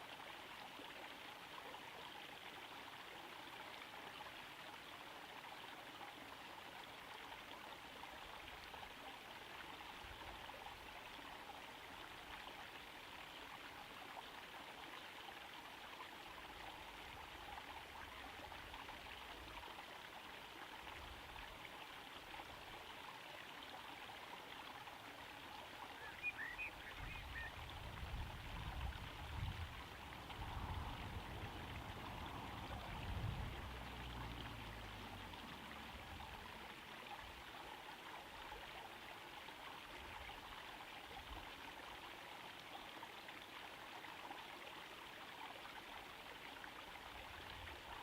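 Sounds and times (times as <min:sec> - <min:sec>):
pond waterfall trickling: 0:00.0 - 0:48.0.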